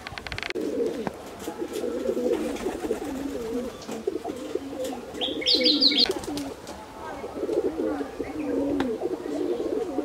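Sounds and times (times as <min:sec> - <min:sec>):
pigeons cooing: 0:00.5 - 0:06.6, 0:07.2 - 0:10.0.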